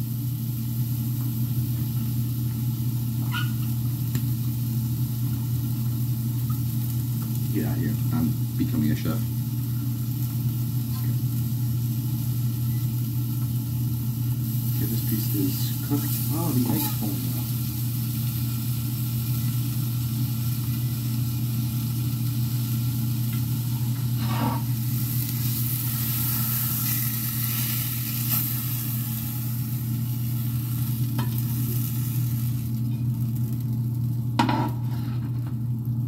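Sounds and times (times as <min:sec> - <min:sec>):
chicken sizzling in a pan: 0:00.0 - 0:36.0
steady low hum: 0:00.0 - 0:36.0.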